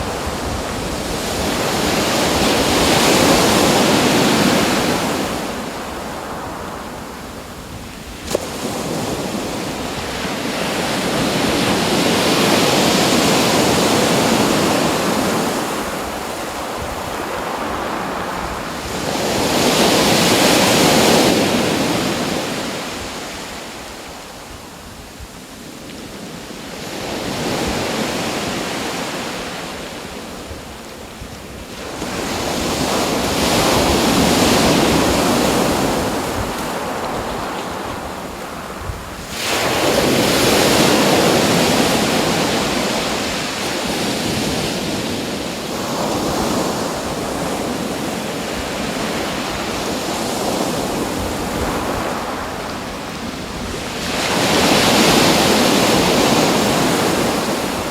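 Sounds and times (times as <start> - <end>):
waves breaking and washing in: 0.0 - 57.9.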